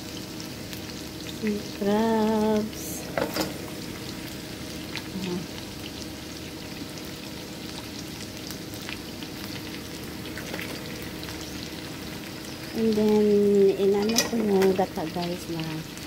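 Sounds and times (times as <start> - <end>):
crabs sizzling in hot oil: 0.0 - 16.0.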